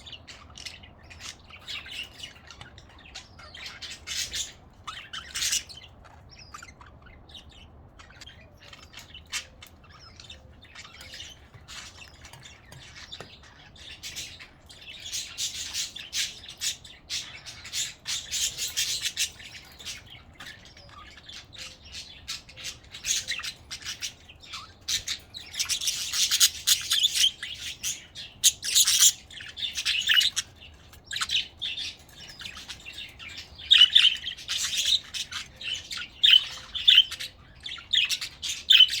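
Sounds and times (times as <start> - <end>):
budgerigars chirping: 0.0 - 39.0.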